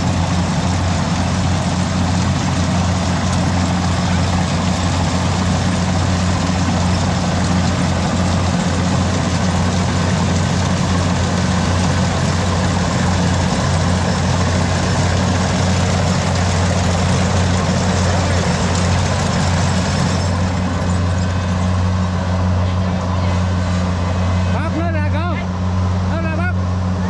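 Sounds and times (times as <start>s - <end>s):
harvester engine hum: 0.0s - 27.0s
rushing threshing machinery: 0.0s - 27.0s.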